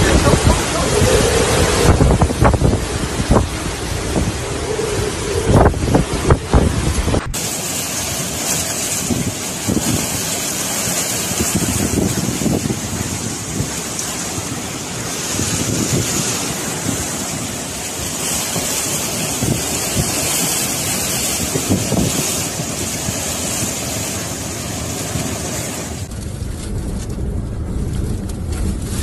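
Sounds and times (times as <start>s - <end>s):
wind gusts buffeting microphone: 0.0s - 29.0s.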